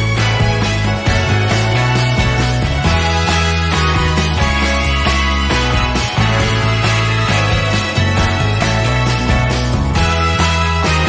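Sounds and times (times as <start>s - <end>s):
full band music with bass: 0.0s - 11.0s.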